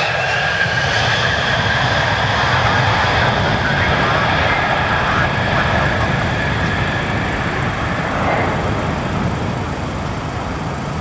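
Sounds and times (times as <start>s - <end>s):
high jet whine: 0.0s - 11.0s
jet engine noise: 0.0s - 11.0s.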